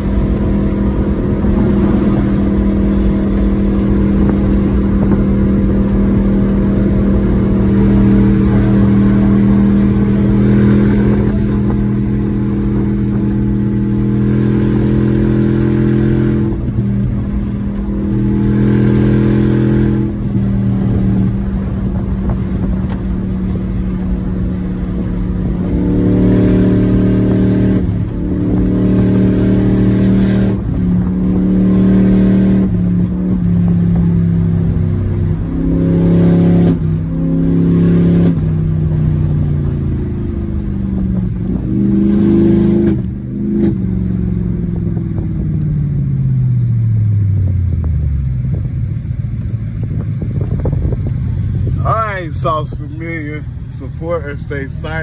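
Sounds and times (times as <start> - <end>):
car engine humming: 0.0 - 55.0
tyre and road noise: 0.0 - 55.0.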